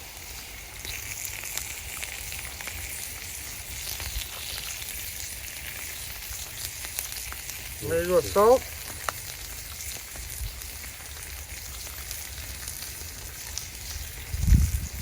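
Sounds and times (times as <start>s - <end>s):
patties sizzling in a pan: 0.0s - 15.0s
pops and crackles: 0.0s - 15.0s.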